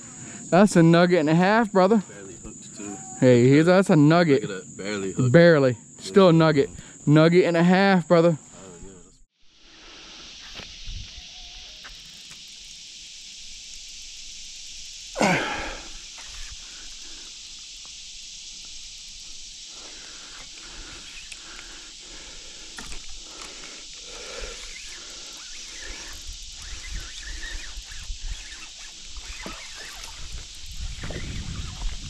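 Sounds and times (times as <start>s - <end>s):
steady high hiss: 0.0s - 32.0s.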